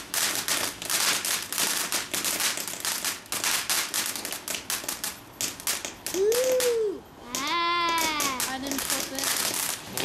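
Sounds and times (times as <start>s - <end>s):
firework crackling pops: 0.0s - 10.0s
firework hiss: 0.0s - 10.0s.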